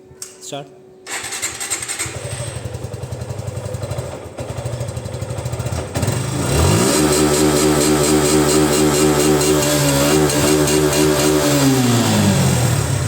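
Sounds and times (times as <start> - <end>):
motorcycle engine revving: 1.1 - 13.0.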